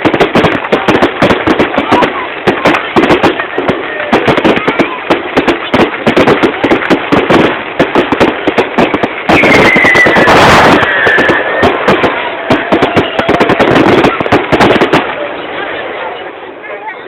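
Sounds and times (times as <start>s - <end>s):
whistling firework: 0.0s - 15.8s
fireworks crackling: 0.0s - 17.0s.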